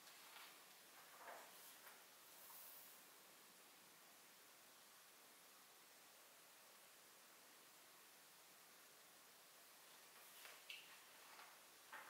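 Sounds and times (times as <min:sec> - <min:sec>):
quiet steady hiss: 0:00.0 - 0:12.0.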